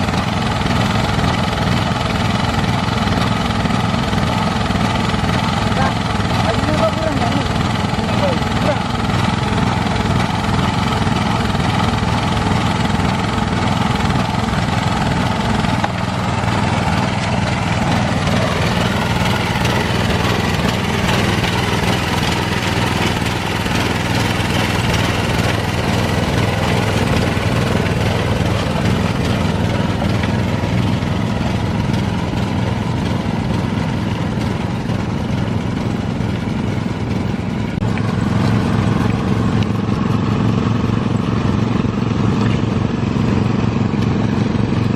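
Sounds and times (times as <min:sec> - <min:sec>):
rice transplanter engine running: 0:00.0 - 0:44.9.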